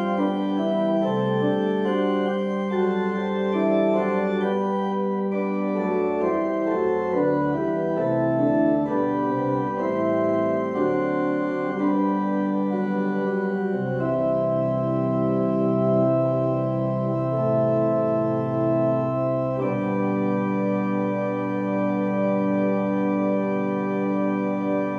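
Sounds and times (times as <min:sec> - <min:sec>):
organ playing chords: 0:00.0 - 0:24.9.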